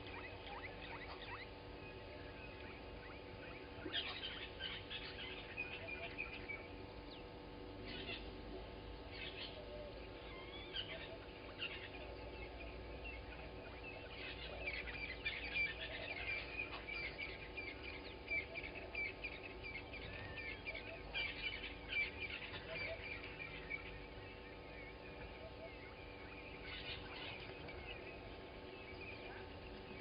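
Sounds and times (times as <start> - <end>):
wild birds chirping and trilling: 0.0 - 30.0.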